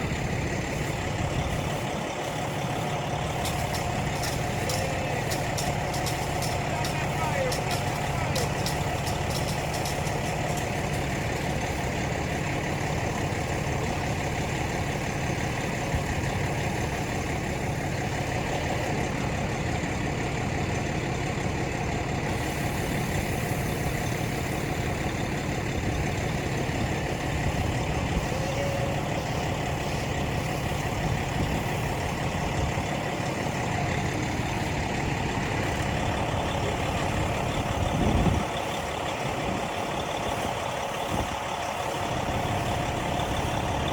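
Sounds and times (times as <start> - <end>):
vehicle engine humming: 0.0 - 43.9.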